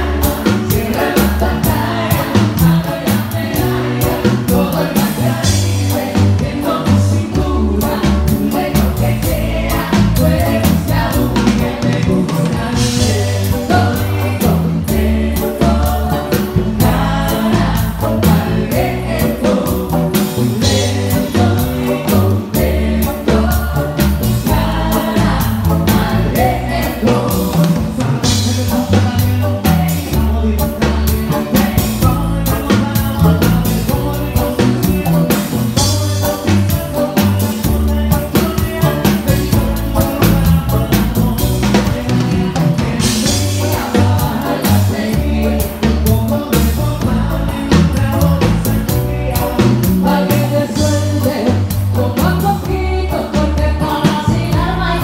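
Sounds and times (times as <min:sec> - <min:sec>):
live band playing with singing: 0:00.0 - 0:55.0.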